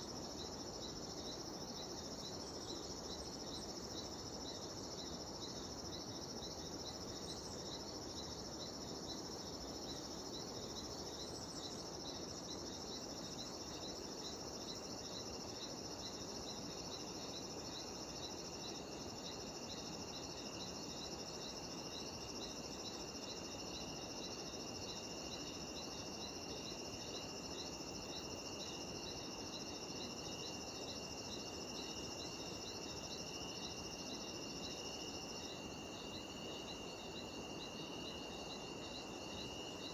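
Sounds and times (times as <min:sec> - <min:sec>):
insects droning: 0:00.0 - 0:39.9
rhythmic insect chirp: 0:00.0 - 0:39.9
steady insect tone: 0:00.0 - 0:39.9.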